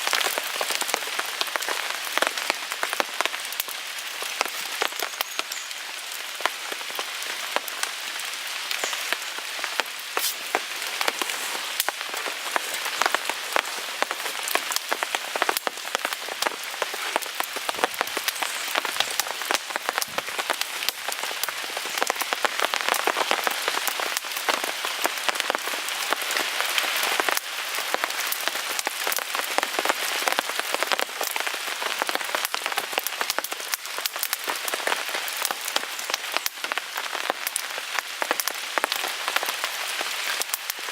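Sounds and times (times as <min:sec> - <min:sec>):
rain pattering on a tarp: 0:00.0 - 0:40.9.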